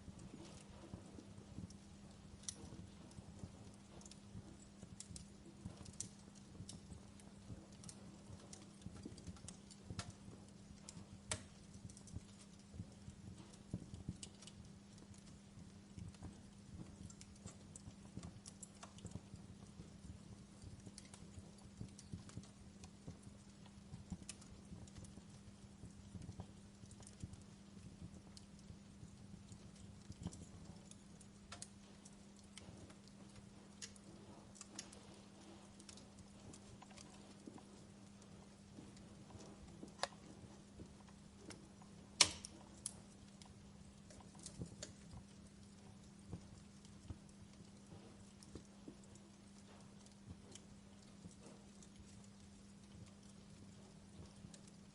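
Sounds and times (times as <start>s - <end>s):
faint low hum: 0.0s - 54.9s
wood fire crackling: 0.0s - 54.9s.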